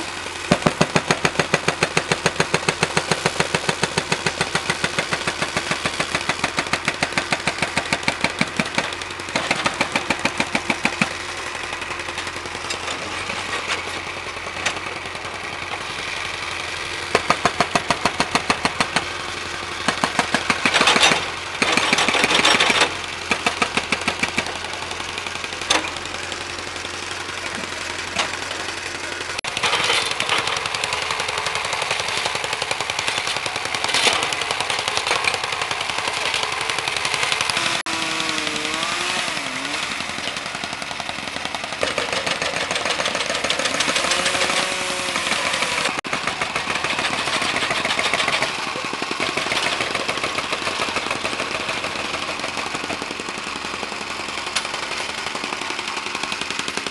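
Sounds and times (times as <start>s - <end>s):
engine running: 0.0s - 56.9s
hydraulic breaker pounding concrete: 0.0s - 56.9s.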